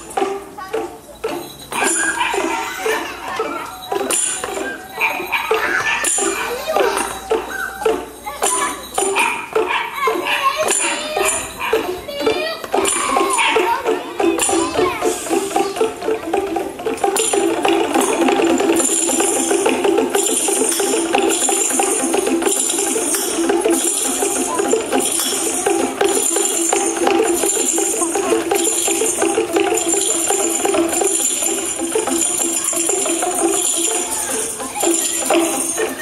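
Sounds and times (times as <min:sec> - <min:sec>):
children's percussion ensemble: 0:00.0 - 0:36.0
tambourine jingles: 0:00.0 - 0:36.0.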